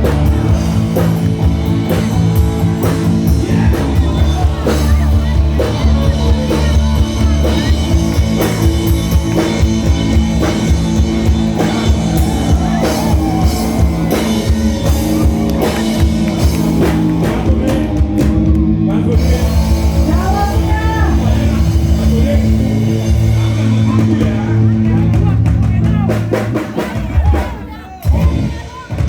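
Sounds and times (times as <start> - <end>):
person singing: 0.0 - 25.6
drum kit beating: 0.0 - 29.0
electric guitars and bass: 0.0 - 29.0.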